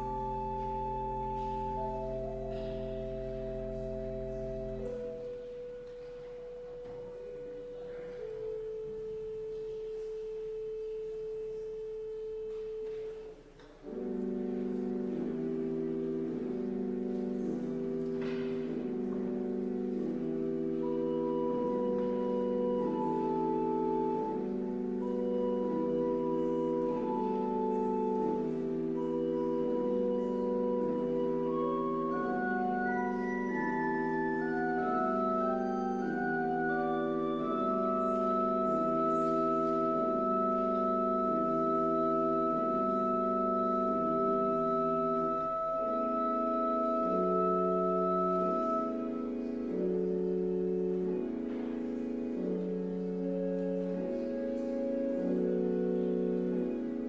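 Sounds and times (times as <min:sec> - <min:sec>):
church organ playing: 0:00.0 - 0:57.0.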